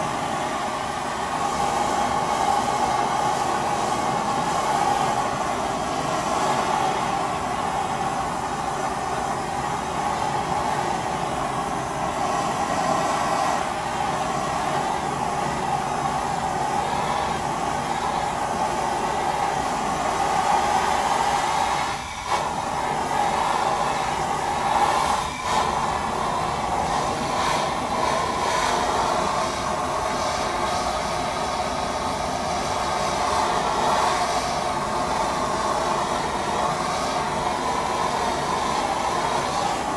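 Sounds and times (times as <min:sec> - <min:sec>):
blowtorch hissing: 0:00.0 - 0:39.9.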